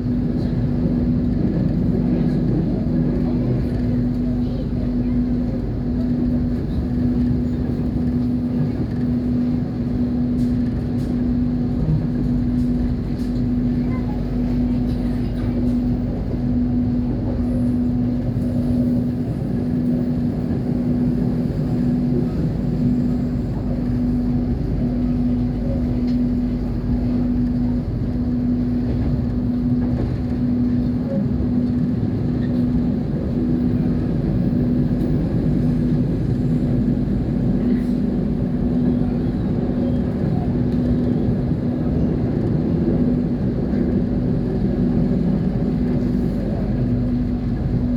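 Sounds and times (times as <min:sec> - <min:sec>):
passenger train rumbling: 0:00.0 - 0:47.9.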